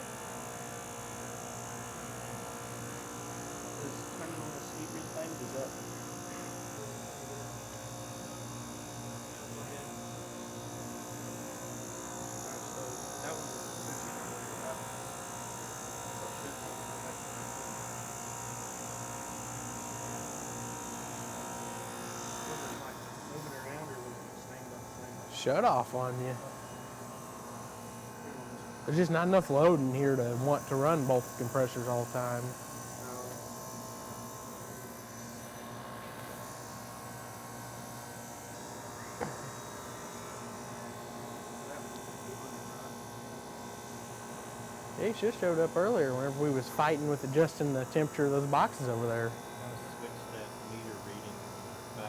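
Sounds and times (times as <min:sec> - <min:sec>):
refrigeration compressor humming: 0:00.0 - 0:52.0.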